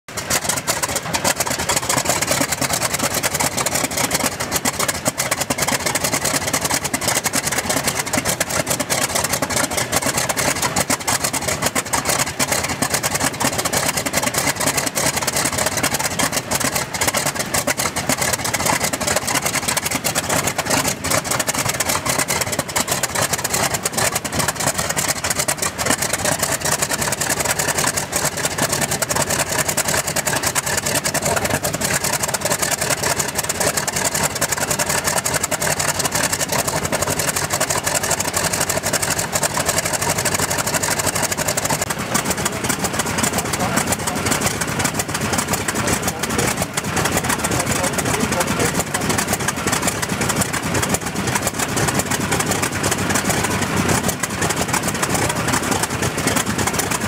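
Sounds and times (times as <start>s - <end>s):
radial engine running: 0.1s - 57.0s.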